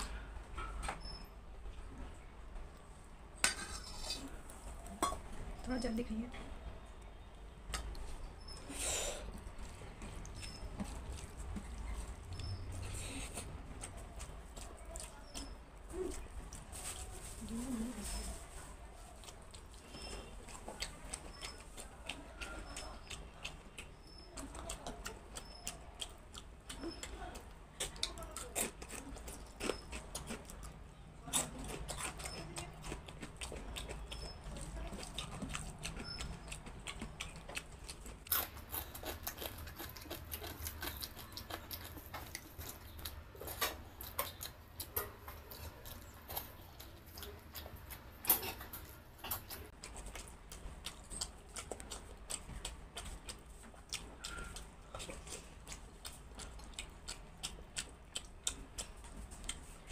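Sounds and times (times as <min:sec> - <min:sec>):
wet chewing: 0:00.0 - 0:59.9.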